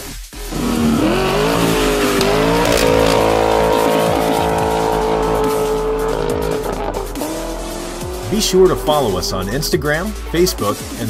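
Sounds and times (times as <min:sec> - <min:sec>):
engine at high revs: 0:00.3 - 0:11.0
tyres squealing: 0:00.5 - 0:11.0.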